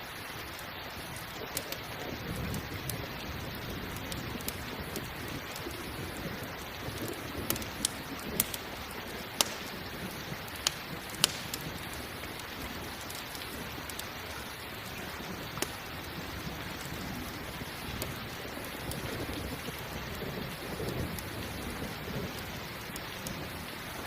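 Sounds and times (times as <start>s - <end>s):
campfire crackling: 0.0s - 24.0s
steady rain: 0.0s - 24.0s.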